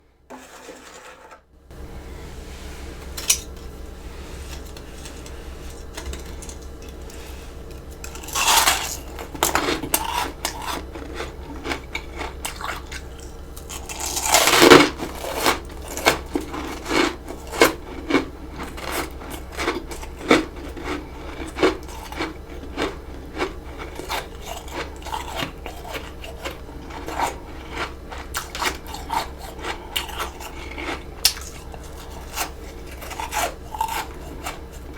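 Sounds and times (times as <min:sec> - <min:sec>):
spoon scraping frost: 0:00.3 - 0:01.4, 0:02.1 - 0:34.9
crunching frost: 0:02.4 - 0:34.9.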